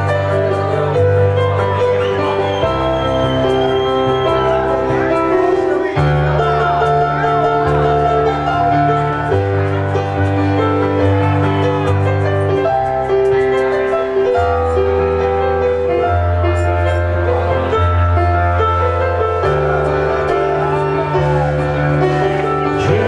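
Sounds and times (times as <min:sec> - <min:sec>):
instrumental keyboard music: 0:00.0 - 0:23.0.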